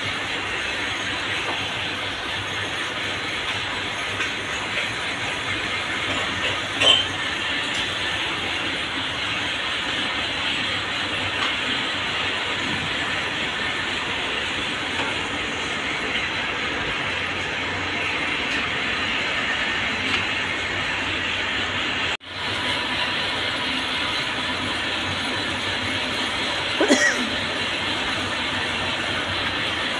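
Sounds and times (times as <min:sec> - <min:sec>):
machinery clattering: 0:00.0 - 0:29.9.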